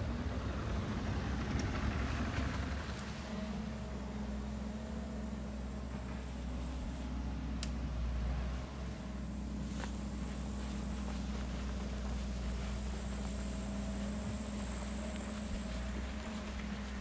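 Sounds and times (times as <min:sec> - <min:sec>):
distant engine humming: 0:00.0 - 0:17.0.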